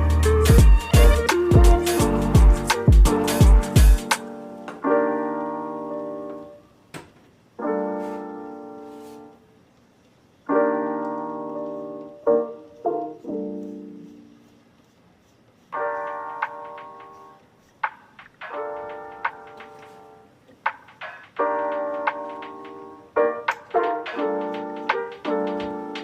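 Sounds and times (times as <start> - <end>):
slow piano chords: 0.0 - 6.8, 7.6 - 9.6, 10.4 - 14.6, 15.8 - 17.4, 18.4 - 20.3, 21.4 - 26.0.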